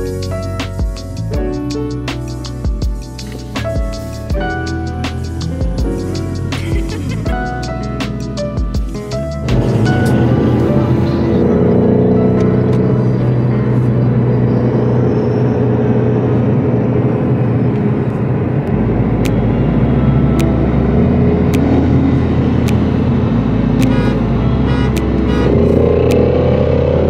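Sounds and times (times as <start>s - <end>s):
car engine drone: 0.0s - 27.0s
road noise: 0.0s - 27.0s.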